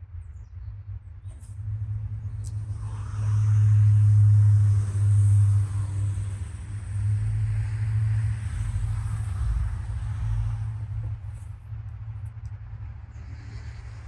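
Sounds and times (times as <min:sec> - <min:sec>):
low motor rumble: 0:00.2 - 0:14.0.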